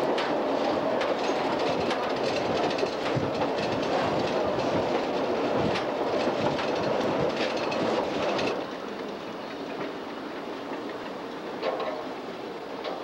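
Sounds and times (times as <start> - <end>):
streetcar rumbling: 0.0 - 13.0
wheels clicking on rails: 0.0 - 13.0.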